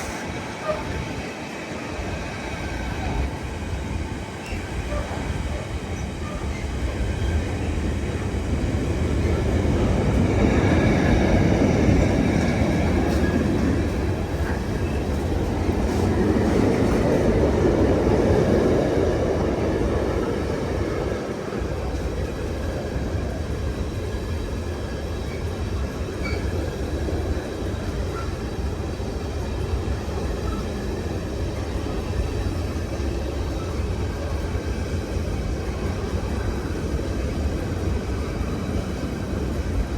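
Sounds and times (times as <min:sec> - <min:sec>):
freight train wagons rumbling: 0:00.0 - 0:39.9.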